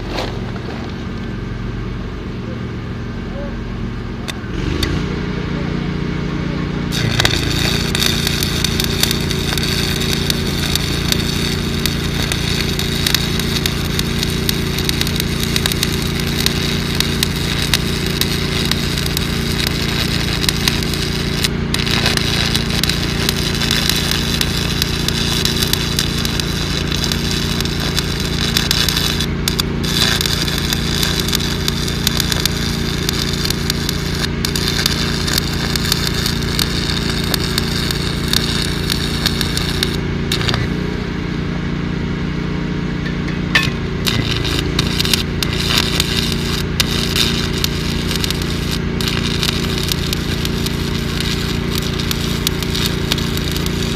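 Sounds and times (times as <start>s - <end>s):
arc welding crackle: 0.0s - 1.3s, 6.9s - 41.4s, 43.0s - 53.9s
steady engine-like hum: 0.0s - 53.9s.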